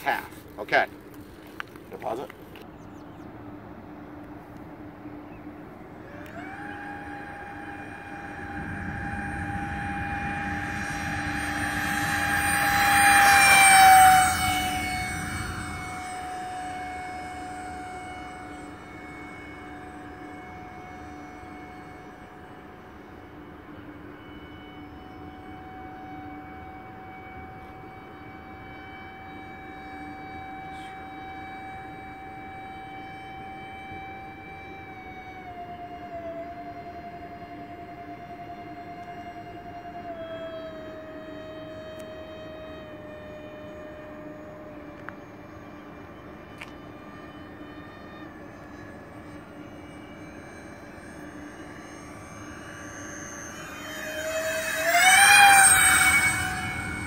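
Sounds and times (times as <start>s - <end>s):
model jet whine: 0.0s - 57.0s.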